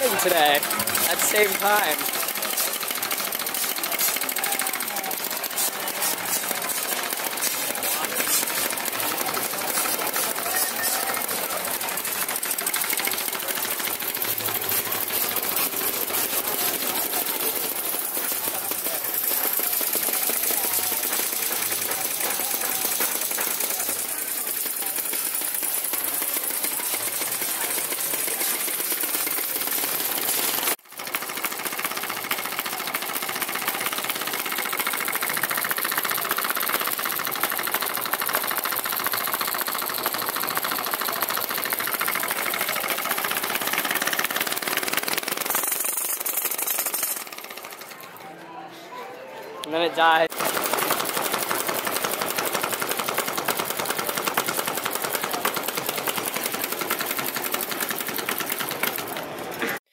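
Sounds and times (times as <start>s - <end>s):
model engines clattering: 0.0s - 48.4s, 50.1s - 59.9s.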